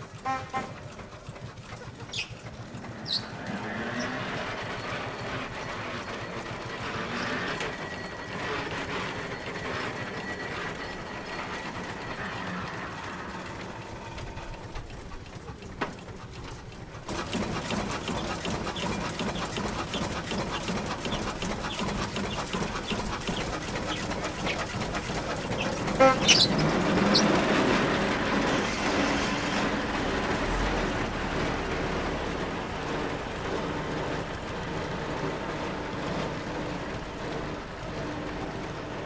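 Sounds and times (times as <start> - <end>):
stationary engine running: 0.0 - 39.0.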